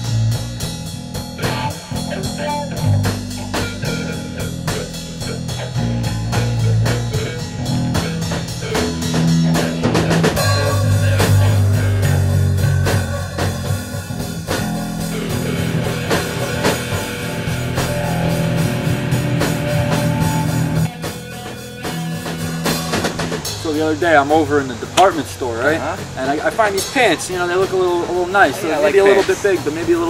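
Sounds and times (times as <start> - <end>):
rock music with drum beat: 0.0 - 30.0.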